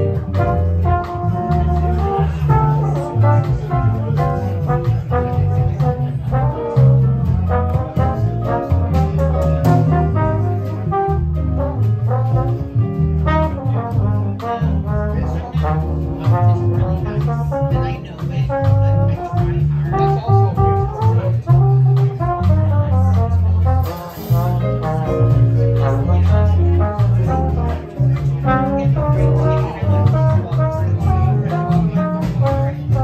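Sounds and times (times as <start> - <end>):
drums: 0.0 - 33.0
electric bass: 0.0 - 33.0
guitar: 0.0 - 33.0
trumpet melody: 0.0 - 33.0.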